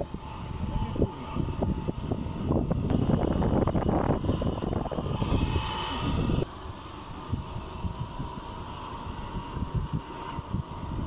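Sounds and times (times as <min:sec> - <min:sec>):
road and engine drone: 0:00.0 - 0:11.0
wind buffeting microphone: 0:00.0 - 0:11.0.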